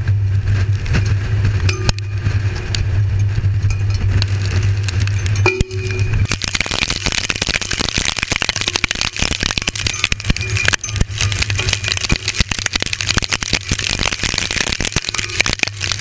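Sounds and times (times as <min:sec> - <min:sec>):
debris and rain battering camera: 0:00.0 - 0:16.0
low hum: 0:00.0 - 0:16.0
wind noise: 0:00.0 - 0:16.0.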